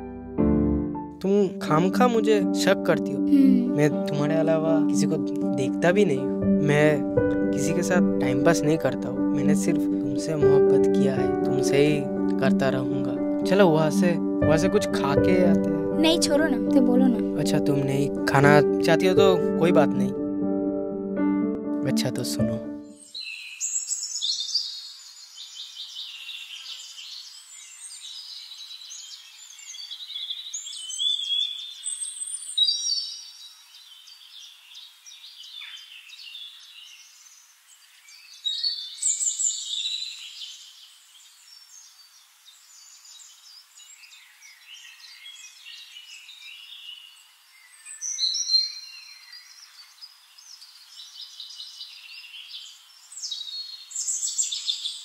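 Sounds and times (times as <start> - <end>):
small birds chirping and singing: 1.2 - 20.2, 22.0 - 55.0.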